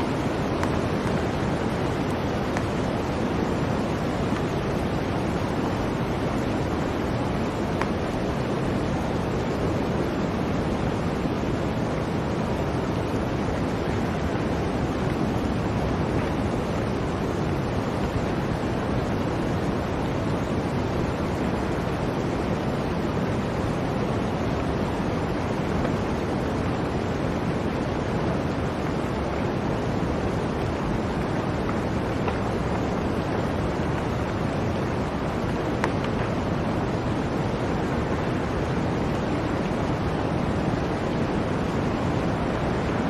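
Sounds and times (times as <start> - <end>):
blizzard wind blowing: 0.0 - 43.0.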